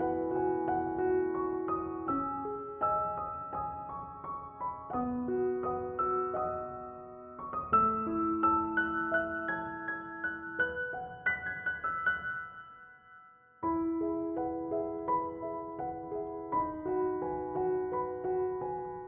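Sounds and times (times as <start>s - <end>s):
soft piano melody: 0.0s - 19.0s.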